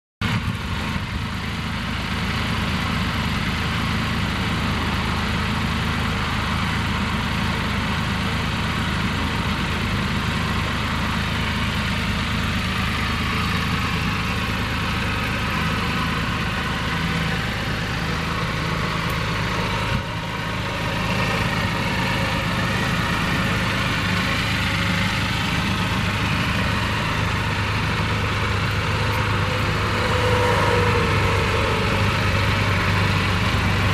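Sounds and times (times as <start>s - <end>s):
engine idling: 0.2s - 33.9s.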